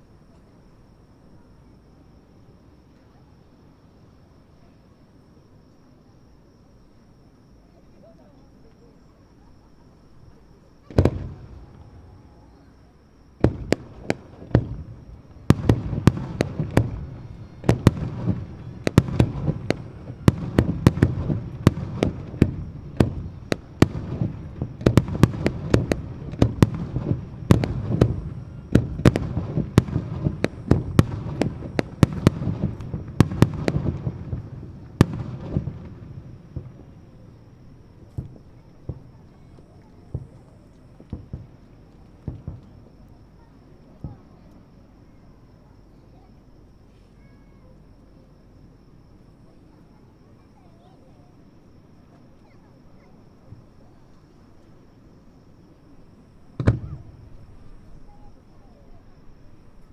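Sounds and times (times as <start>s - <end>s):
distant fireworks bursting: 9.6s - 47.0s, 48.8s - 59.9s.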